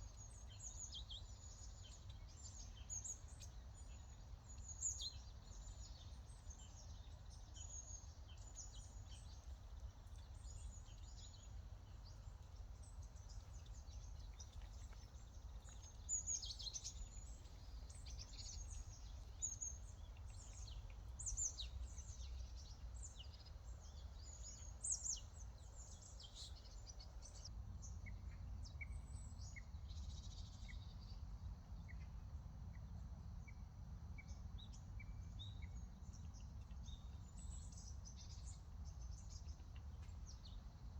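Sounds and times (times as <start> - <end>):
songbirds chirping: 0.0 - 33.6, 34.2 - 40.9.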